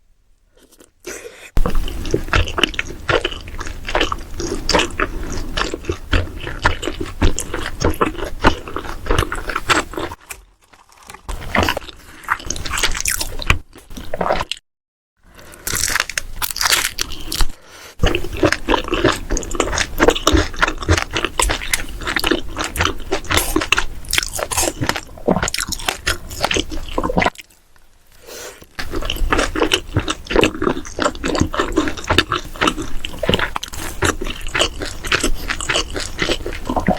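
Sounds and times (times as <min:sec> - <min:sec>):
person biting and crunching food: 0:00.6 - 0:14.6, 0:15.3 - 0:27.6, 0:28.5 - 0:36.9.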